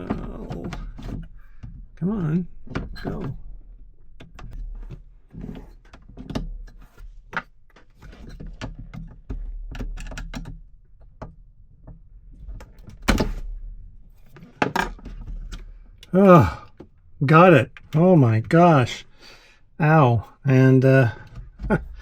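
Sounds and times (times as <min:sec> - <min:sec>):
knocks clunks and scrapes: 0:00.0 - 0:22.0.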